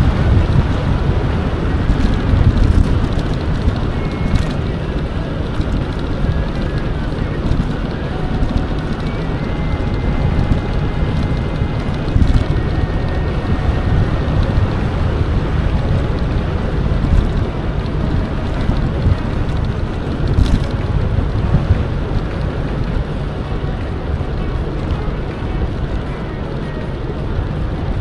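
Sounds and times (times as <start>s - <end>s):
faint thin whine: 0.0s - 28.0s
wind buffeting the microphone: 0.0s - 28.0s.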